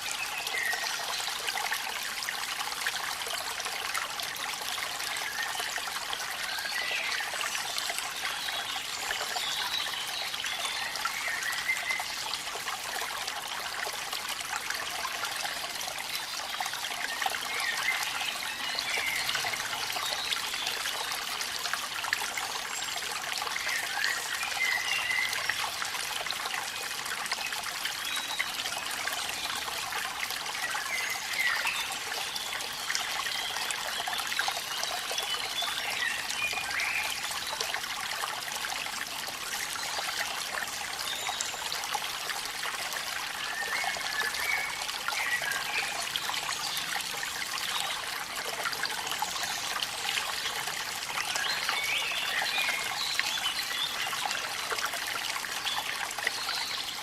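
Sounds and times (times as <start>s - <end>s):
waterfall trickling and splashing: 0.0s - 57.0s.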